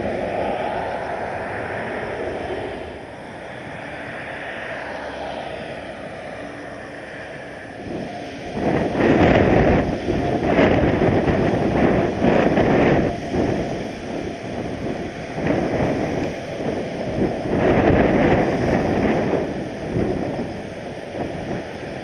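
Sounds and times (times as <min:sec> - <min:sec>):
gusty wind buffeting microphone: 0:00.0 - 0:22.0
jet engine rushing: 0:00.0 - 0:22.0.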